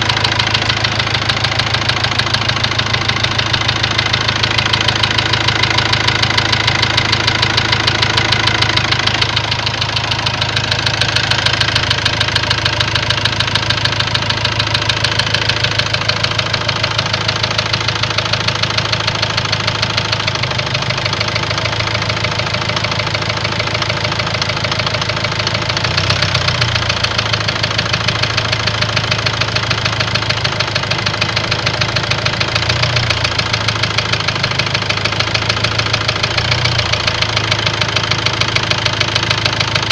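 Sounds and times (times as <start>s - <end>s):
engine idling with knock: 0.0s - 39.9s.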